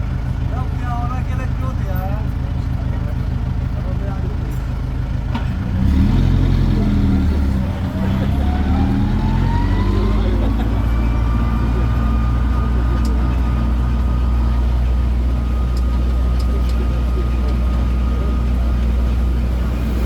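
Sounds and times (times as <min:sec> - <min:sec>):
engine deep hum: 0:00.0 - 0:20.0.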